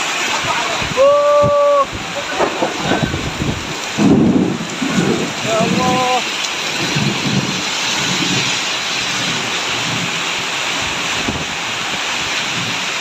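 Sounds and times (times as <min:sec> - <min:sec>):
heavy rain pouring: 0:00.0 - 0:13.0
wind gusts buffeting microphone: 0:00.1 - 0:13.0.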